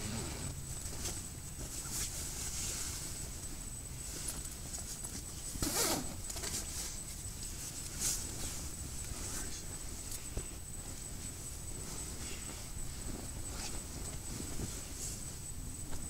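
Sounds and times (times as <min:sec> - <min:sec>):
blankets and clothing rustling: 0:00.0 - 0:16.0.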